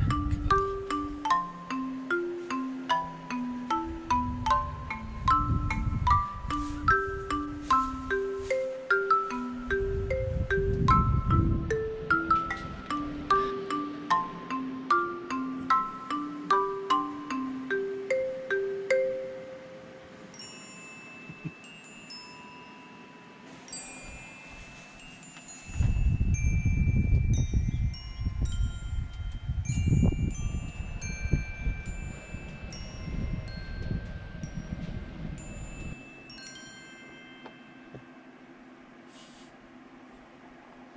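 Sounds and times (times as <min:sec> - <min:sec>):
wind chimes tinkling: 0:00.0 - 0:38.8.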